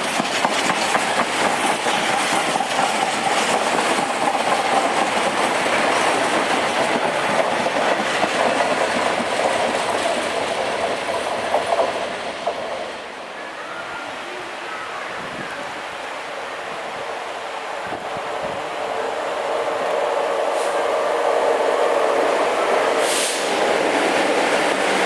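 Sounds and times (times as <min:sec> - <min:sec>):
train rumbling on rails: 0:00.0 - 0:14.4, 0:15.1 - 0:25.0.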